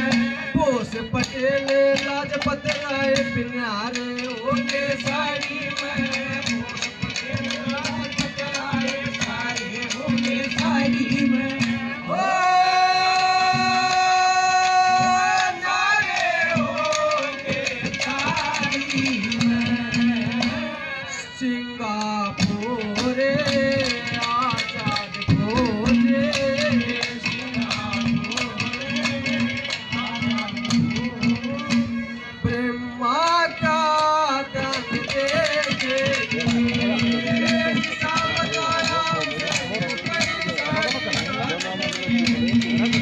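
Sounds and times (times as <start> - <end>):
hand drum beat: 0.0 - 21.0, 21.9 - 43.0
wavering folk melody: 0.0 - 43.0.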